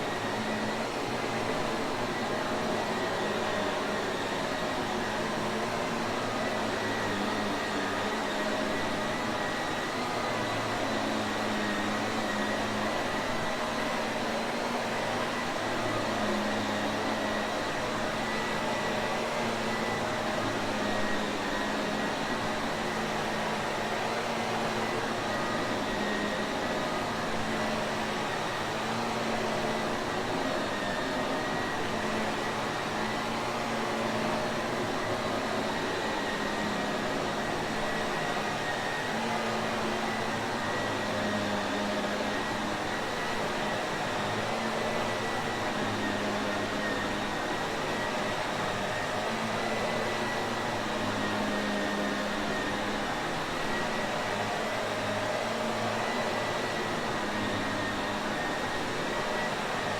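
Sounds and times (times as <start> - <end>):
vacuum cleaner motor running: 0.0 - 59.9.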